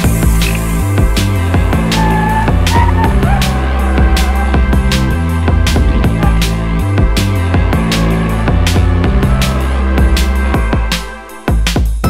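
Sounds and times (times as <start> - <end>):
background music with drums and bass: 0.0 - 12.0.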